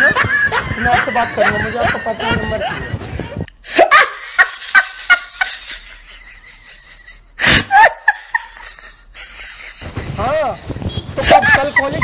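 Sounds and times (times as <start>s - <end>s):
person laughing: 0.0s - 12.0s.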